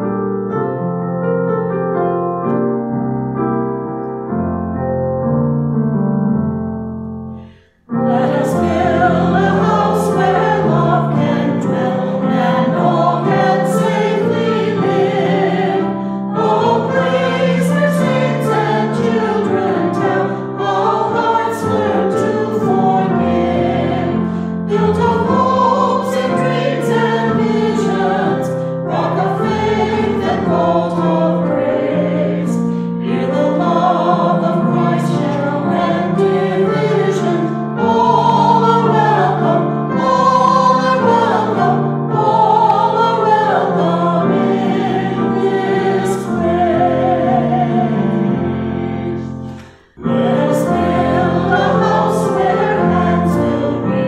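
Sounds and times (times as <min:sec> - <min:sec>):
keyboard accompaniment: 0:00.0 - 0:54.0
choir singing a hymn: 0:07.3 - 0:54.0.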